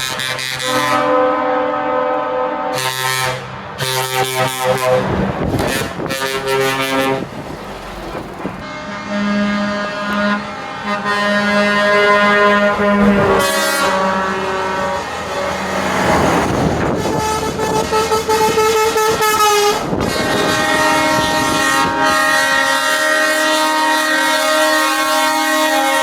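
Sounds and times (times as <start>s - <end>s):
truck air horns: 0.0s - 26.0s.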